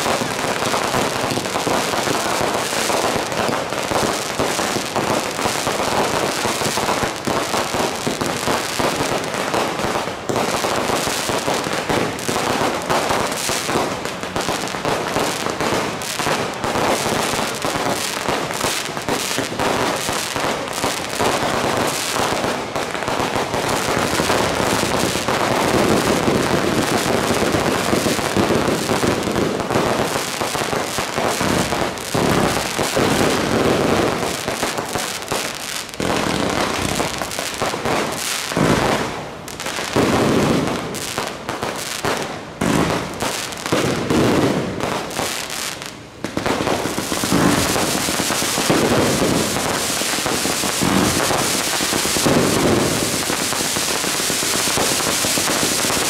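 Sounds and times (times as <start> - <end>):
aerial fireworks bursting: 0.0 - 56.0
firecrackers crackling: 0.0 - 56.0.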